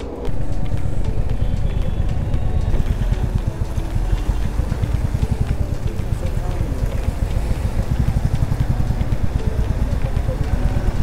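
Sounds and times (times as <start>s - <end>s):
background music: 0.0s - 11.0s
motorcycle engine idling: 0.3s - 11.0s.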